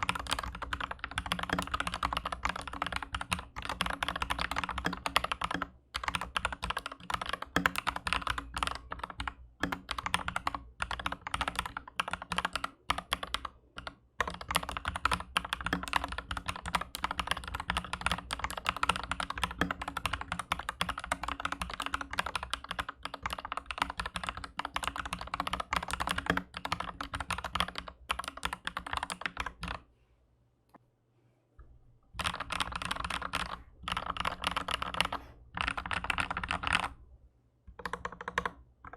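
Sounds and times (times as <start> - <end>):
fast typing on mechanical keyboard: 0.0 - 29.8, 32.2 - 37.0, 37.7 - 38.9.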